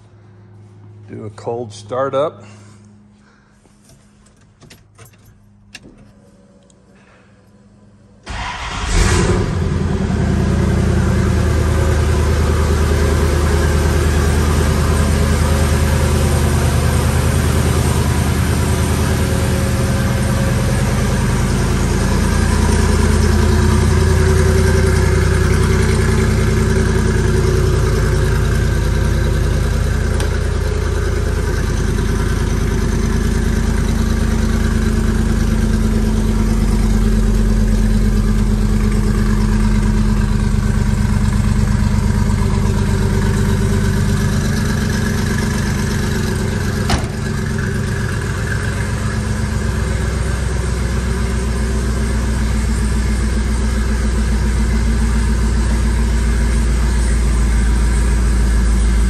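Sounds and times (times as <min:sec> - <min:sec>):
car engine cranking and idling: 0:00.0 - 0:59.0.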